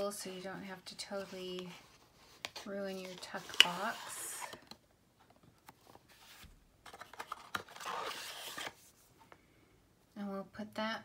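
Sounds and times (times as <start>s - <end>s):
cardboard and paper rustling: 0.0s - 8.9s.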